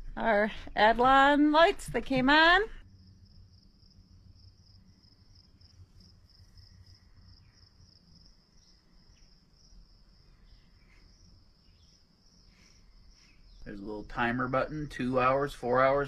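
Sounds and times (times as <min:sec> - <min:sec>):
faint crickets chirping: 0:00.0 - 0:16.0.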